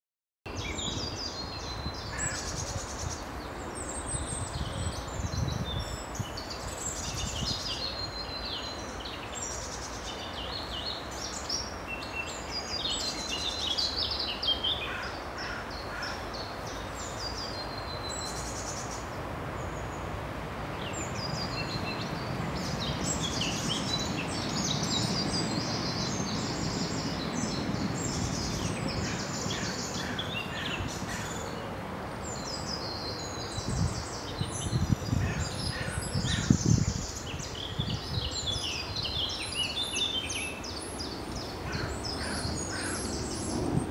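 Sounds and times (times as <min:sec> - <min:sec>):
songbirds singing: 0:00.5 - 0:43.9.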